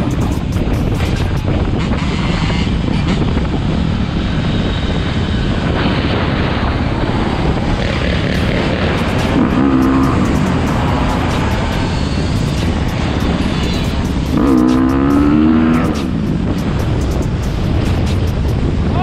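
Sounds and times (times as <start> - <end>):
dirt bike engines running: 0.0 - 19.0
wind buffeting microphone: 0.0 - 19.0.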